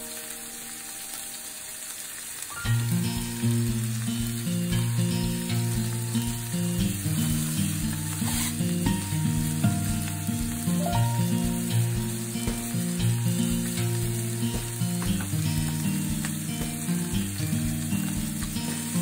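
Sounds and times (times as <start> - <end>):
steak sizzling in a frying pan: 0.0 - 19.0
soft background music: 2.6 - 19.0.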